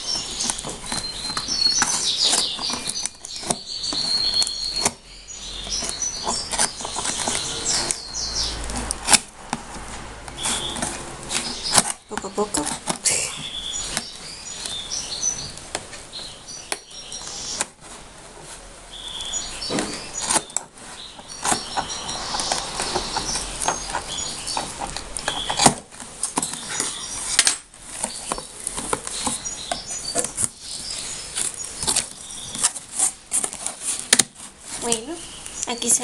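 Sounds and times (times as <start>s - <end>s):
cardboard and plastic packaging rustling: 0.0s - 36.0s.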